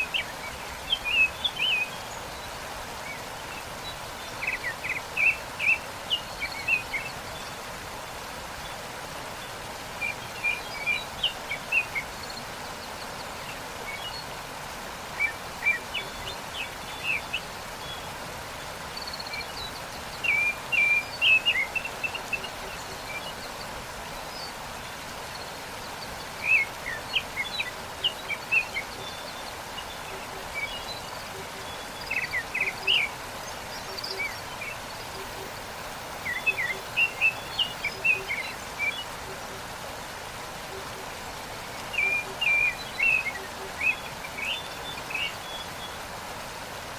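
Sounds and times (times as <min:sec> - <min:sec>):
songbirds chirping: 0:00.0 - 0:46.9
waterfall rushing: 0:00.0 - 0:46.9.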